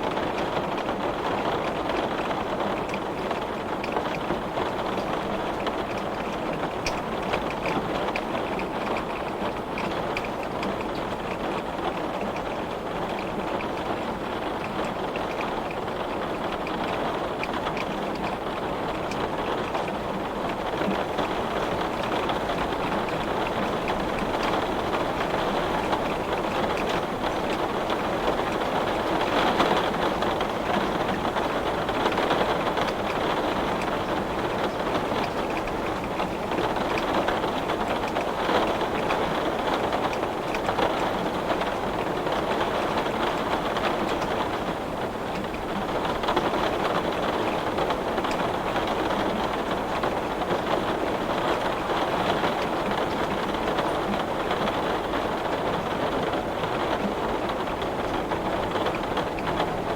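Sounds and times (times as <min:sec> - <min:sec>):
heavy rain on window glass: 0:00.0 - 0:59.9.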